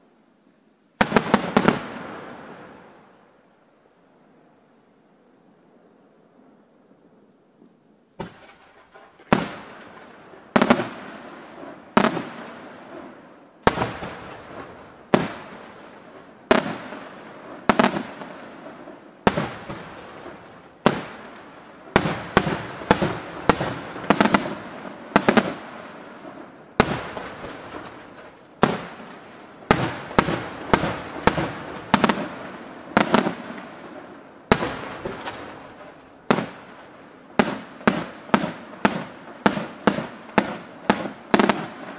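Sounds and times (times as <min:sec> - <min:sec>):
fireworks bursting with echoing rumble: 0:01.0 - 0:03.2, 0:08.2 - 0:41.9.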